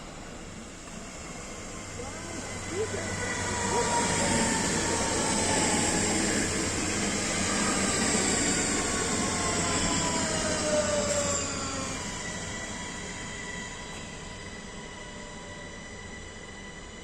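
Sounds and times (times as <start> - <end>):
train motors whining: 0.0 - 17.0.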